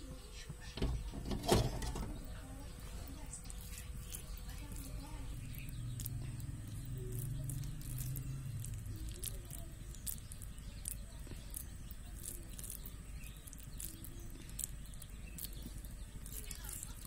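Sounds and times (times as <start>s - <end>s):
low hum: 0.0s - 17.0s
food frying in crackling oil: 3.2s - 17.0s.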